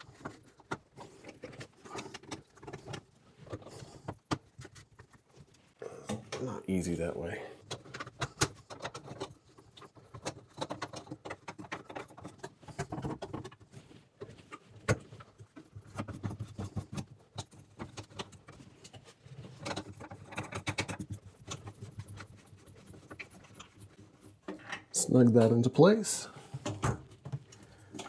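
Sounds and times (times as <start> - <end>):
plastic fittings scraping and clicking: 0.0 - 28.0.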